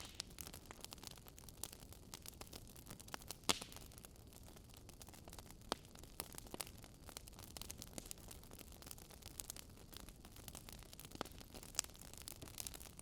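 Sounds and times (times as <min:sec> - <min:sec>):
log fire crackling: 0:00.0 - 0:13.0.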